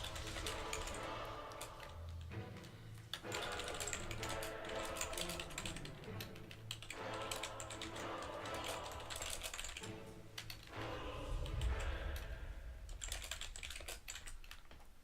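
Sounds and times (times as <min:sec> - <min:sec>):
keyboard typing clicks: 0:00.0 - 0:10.7, 0:12.9 - 0:14.9
background music: 0:00.0 - 0:14.4.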